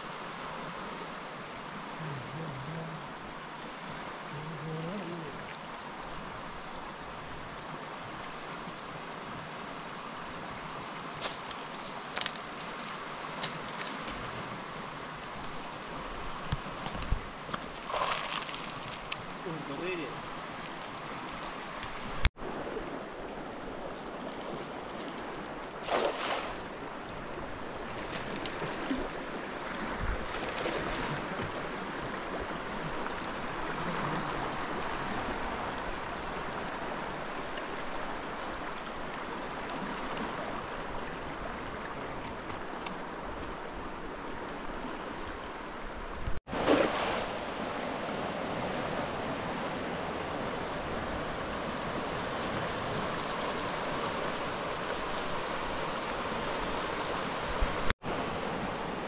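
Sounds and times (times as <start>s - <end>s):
river water rushing past rocks: 0.0s - 59.0s.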